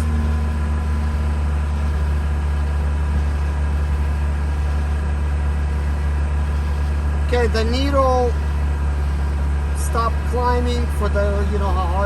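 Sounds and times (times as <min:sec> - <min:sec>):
rotary engine fast idle: 0:00.0 - 0:12.0.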